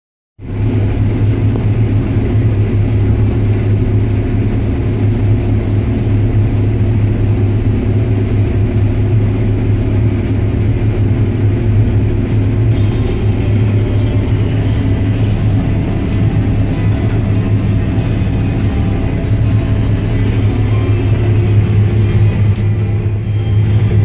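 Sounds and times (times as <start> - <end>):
combine harvester drone: 0.4 - 24.0.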